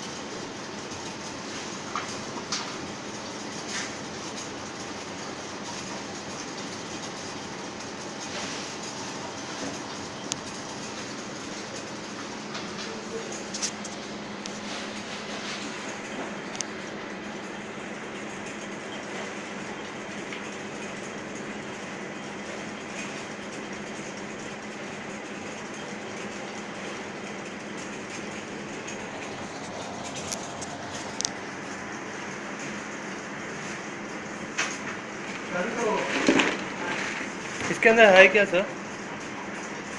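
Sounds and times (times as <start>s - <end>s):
low machine hum: 0.0s - 39.9s
machine clattering: 0.0s - 39.9s.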